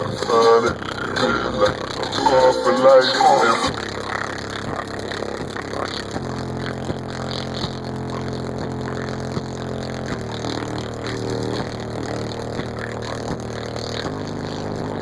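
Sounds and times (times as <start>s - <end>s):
heavy bass from subwoofers: 0.0s - 15.0s.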